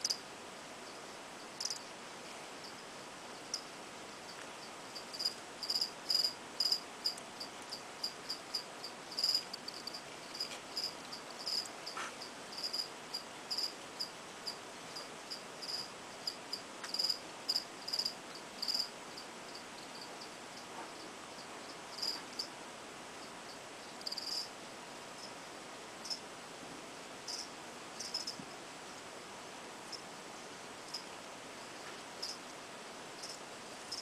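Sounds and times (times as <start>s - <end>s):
crickets chirping: 0.0s - 26.3s, 27.2s - 28.4s, 30.8s - 32.5s, 33.2s - 34.0s.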